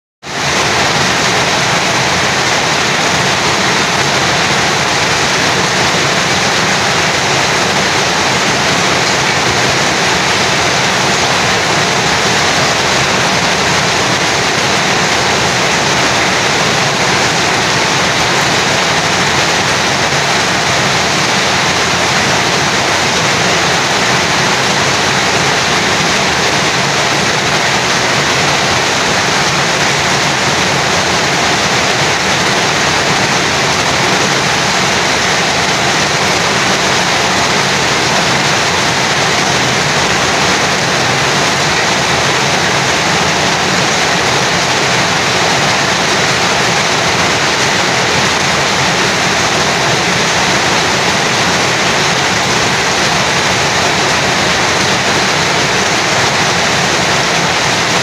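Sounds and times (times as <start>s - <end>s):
heavy rain falling: 0.2s - 58.0s.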